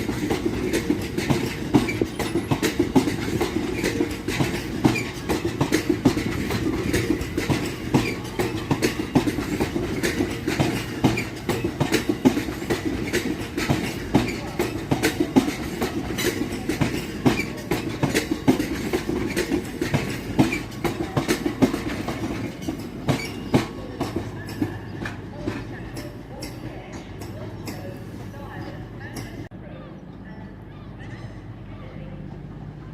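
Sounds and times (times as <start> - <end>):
train wheels clattering: 0.0 - 29.5
train rumble: 0.0 - 32.9.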